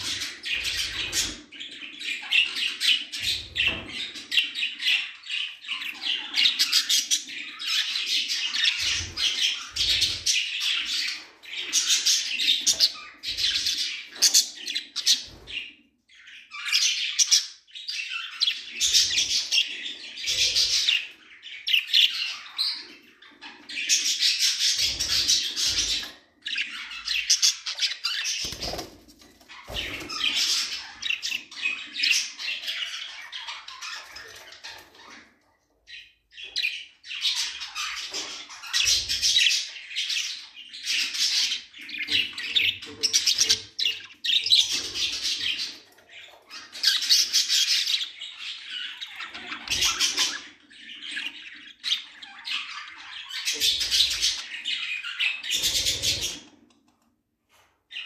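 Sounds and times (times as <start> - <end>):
budgerigars chattering and warbling: 0.0 - 28.8, 36.3 - 56.7.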